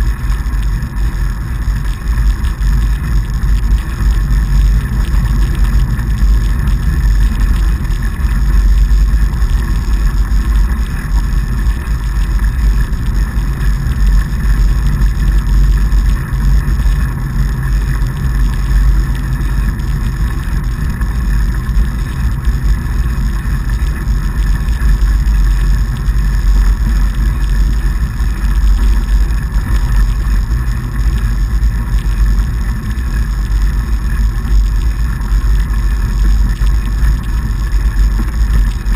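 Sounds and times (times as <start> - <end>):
bike tyres rolling over snow: 0.0 - 38.9
wind noise on microphone: 0.0 - 38.9.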